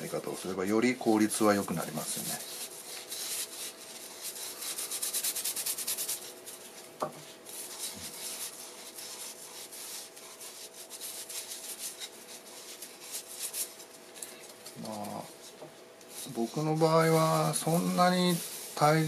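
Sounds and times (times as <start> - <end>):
rag rubbing wooden bowl: 0.0 - 19.0.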